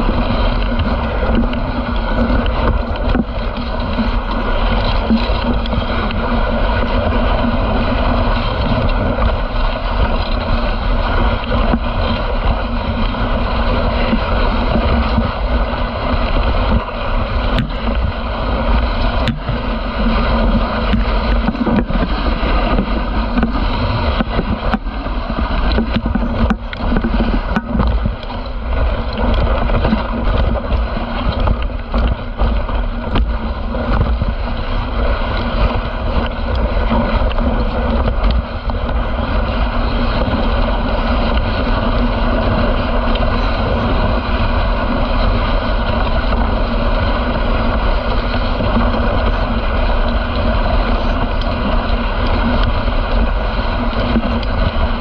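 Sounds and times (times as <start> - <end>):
sled runners scraping on snow: 0.0 - 55.0
wind on microphone: 0.0 - 55.0.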